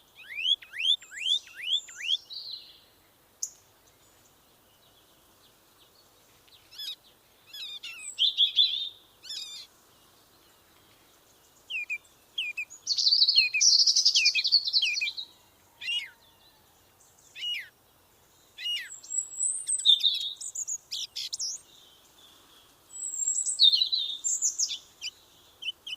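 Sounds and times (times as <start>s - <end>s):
songbird singing: 0.0s - 25.9s.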